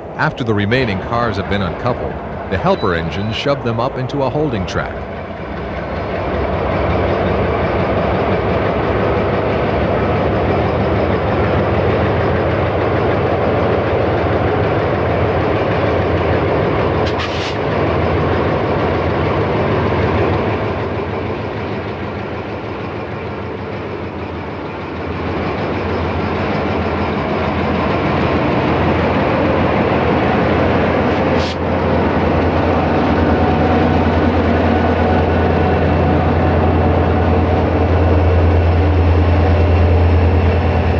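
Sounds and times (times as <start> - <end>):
locomotive engine drone: 0.0 - 40.9
rail and car noise: 0.0 - 40.9.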